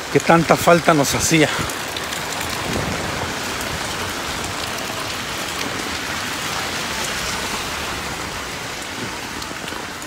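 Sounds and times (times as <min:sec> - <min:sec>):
rain drumming on umbrella: 0:00.0 - 0:10.0
rain on wet pavement: 0:00.0 - 0:10.0.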